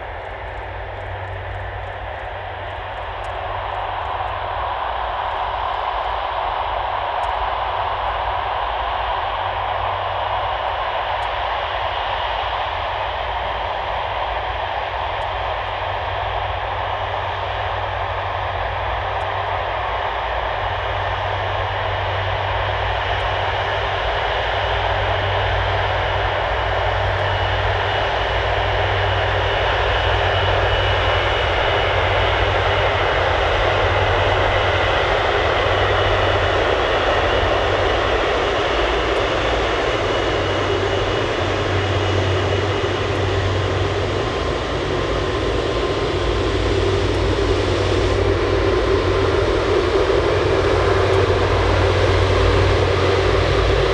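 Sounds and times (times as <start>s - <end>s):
jet engine roar: 0.0s - 53.9s.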